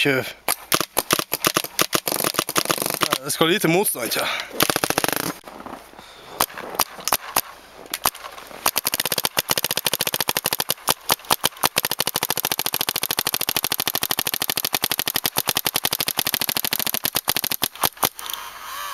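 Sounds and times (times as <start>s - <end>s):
paintball marker firing: 0.5s - 3.3s, 4.5s - 5.4s, 6.4s - 18.4s.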